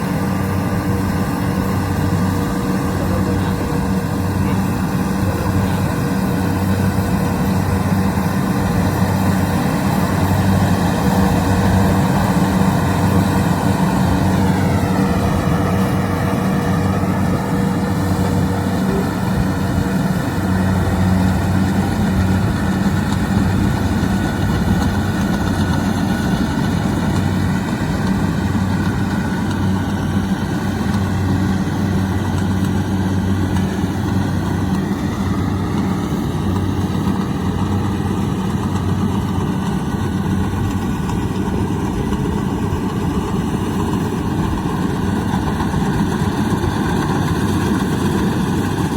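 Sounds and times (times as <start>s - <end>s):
combine harvester engine running: 0.0s - 48.9s.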